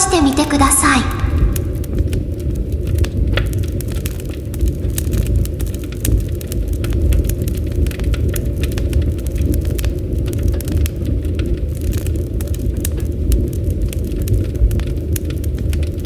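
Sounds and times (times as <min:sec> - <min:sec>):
flames rumbling: 0:01.3 - 0:16.0
burning wood crackling and popping: 0:01.7 - 0:16.0.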